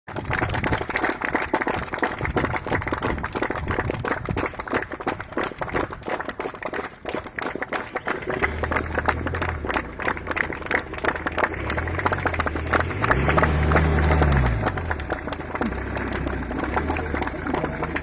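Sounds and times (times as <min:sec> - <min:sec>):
crowd clapping: 0:00.1 - 0:18.0.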